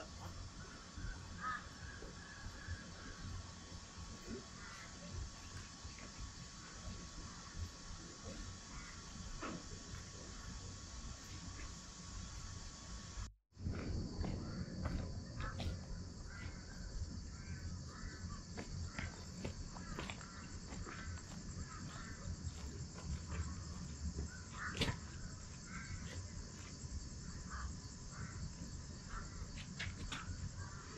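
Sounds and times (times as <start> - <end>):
insect chorus: 0.0 - 30.9.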